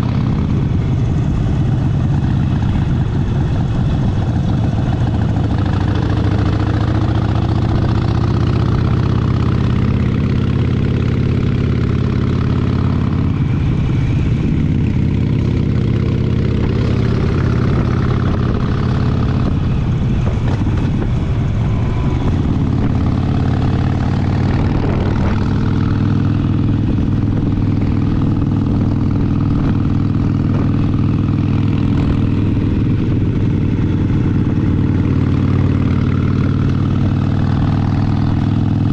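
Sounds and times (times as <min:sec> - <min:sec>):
motorcycle engine running at low revs: 0:00.0 - 0:38.9.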